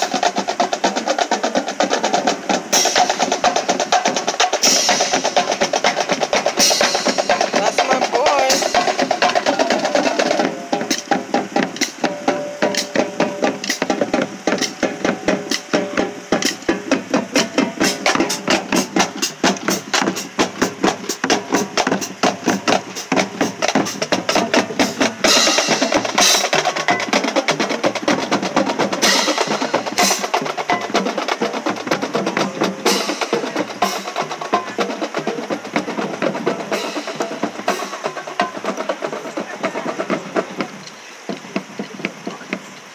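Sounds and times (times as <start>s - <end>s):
snare drum strokes: 0.0s - 42.6s.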